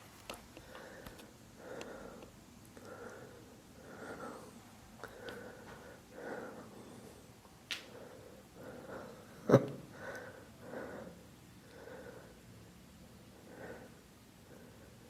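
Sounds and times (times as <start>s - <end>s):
soft breaths: 0.0s - 15.0s.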